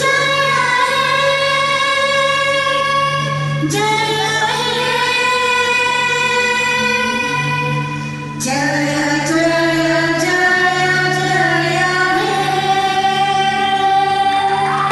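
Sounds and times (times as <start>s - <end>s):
women singing together: 0.0s - 7.8s, 8.4s - 14.9s.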